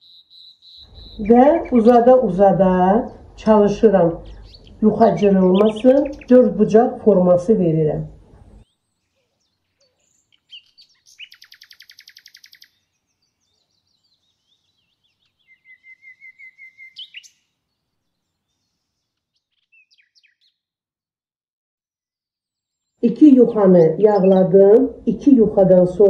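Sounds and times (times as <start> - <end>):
songbird chirping and trilling: 0.0 - 20.8, 22.4 - 26.0.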